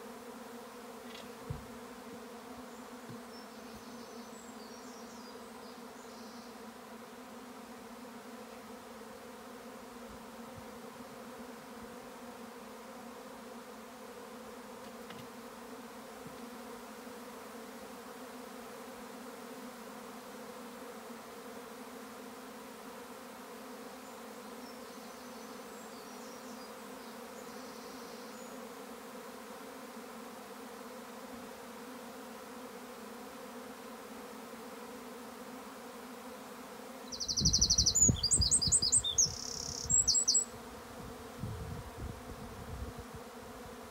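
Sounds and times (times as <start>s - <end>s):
swarm of bees humming: 0.0s - 43.9s.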